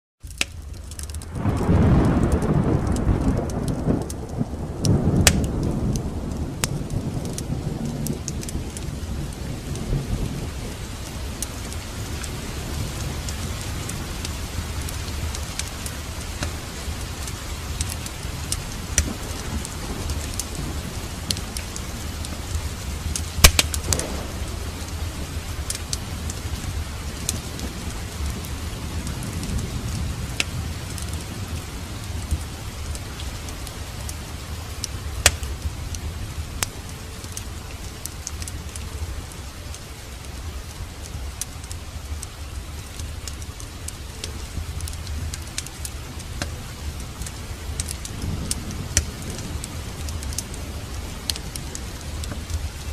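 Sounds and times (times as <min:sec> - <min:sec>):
steady rain: 0:00.2 - 0:52.9
wood fire crackling and popping: 0:00.2 - 0:52.9.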